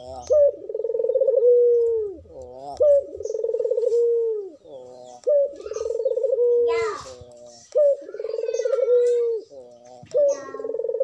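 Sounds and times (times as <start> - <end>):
dove cooing: 0.0 - 11.0.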